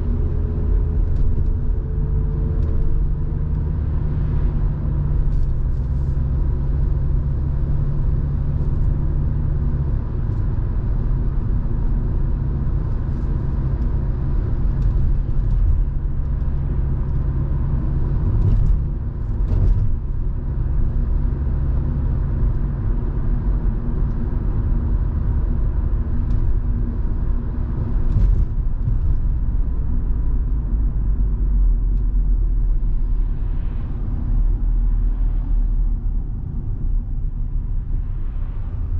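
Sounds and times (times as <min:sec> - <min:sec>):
car engine drone in cabin: 0:00.0 - 0:38.9
road noise: 0:00.0 - 0:38.9.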